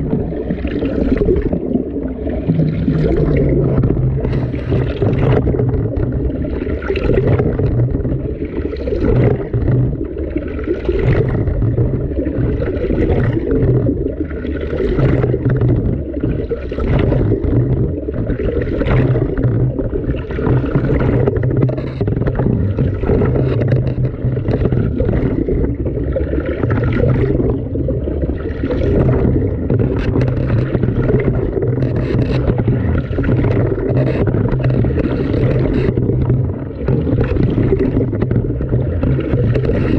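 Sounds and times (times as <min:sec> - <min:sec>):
low motor hum: 0:00.0 - 0:39.9
water sloshing in washing machine: 0:00.0 - 0:39.9.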